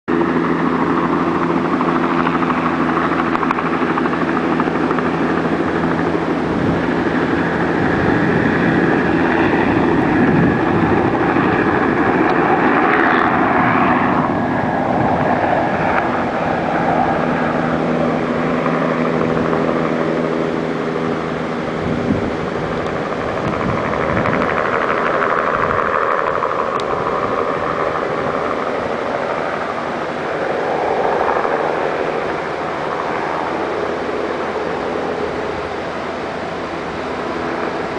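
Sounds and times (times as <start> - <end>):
helicopter rotor and engine thrum: 0.0 - 37.9.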